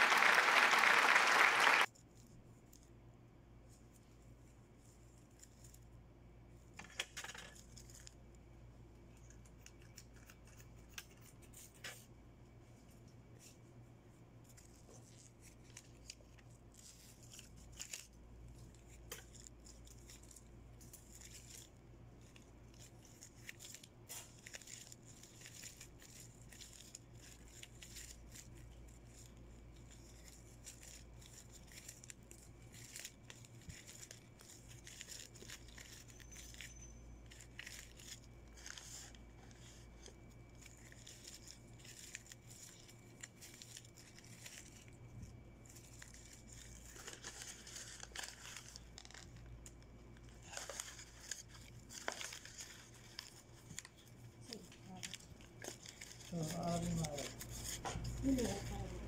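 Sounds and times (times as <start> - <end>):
ribbon rustling and crinkling: 1.8 - 59.0.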